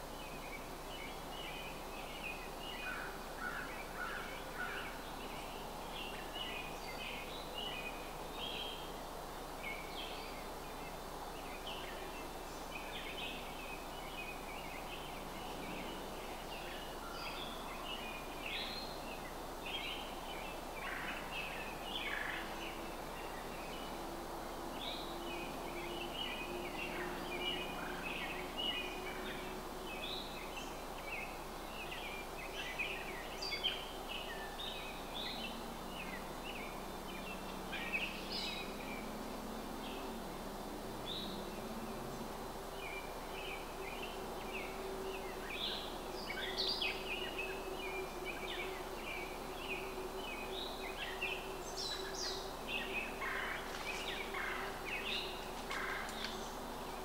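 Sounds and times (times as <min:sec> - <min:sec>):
outdoor background hiss: 0:00.0 - 0:57.0
birds chirping and singing: 0:09.6 - 0:57.0.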